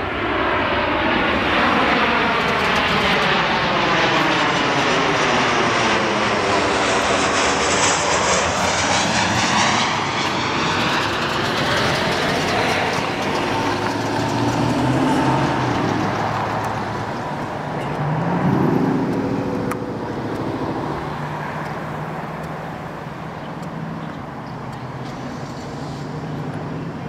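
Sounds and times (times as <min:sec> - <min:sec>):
jet engines roaring: 0:00.0 - 0:27.0
rising engine tone: 0:00.7 - 0:22.4.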